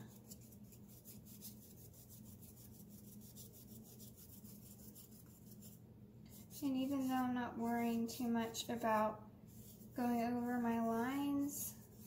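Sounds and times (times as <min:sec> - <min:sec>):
paintbrush rasping on paper: 0:00.0 - 0:07.6, 0:08.2 - 0:12.0
low steady hum: 0:00.0 - 0:12.0.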